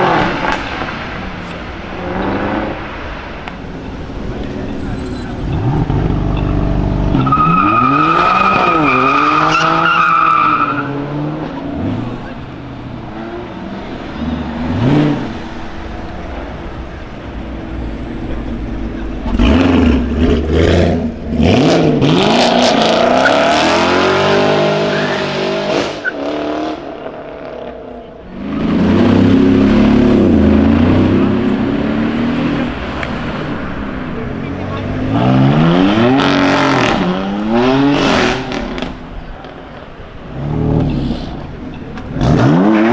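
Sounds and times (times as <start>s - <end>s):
sports car engines revving: 0.0s - 42.9s.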